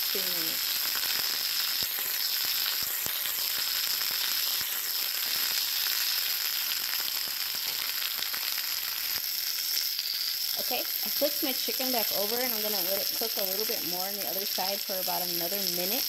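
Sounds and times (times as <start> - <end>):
chicken sizzling in a frying pan: 0.0 - 16.0.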